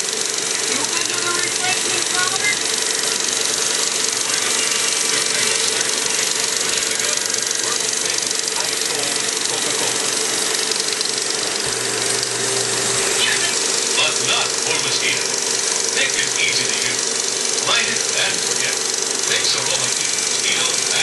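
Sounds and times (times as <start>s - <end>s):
film projector clattering: 0.0s - 21.0s
projector motor hum: 0.0s - 21.0s.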